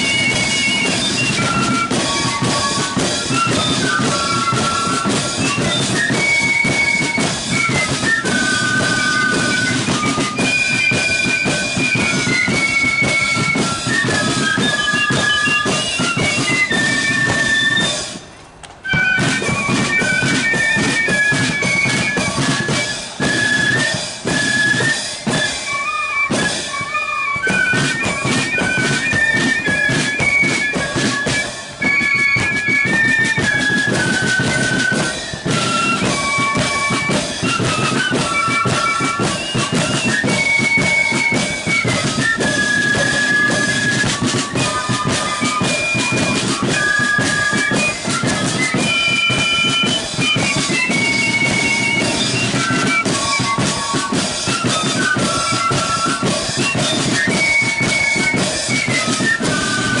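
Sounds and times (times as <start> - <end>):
flutes playing melody: 0.0 - 60.0
snare and bass drums: 0.0 - 60.0.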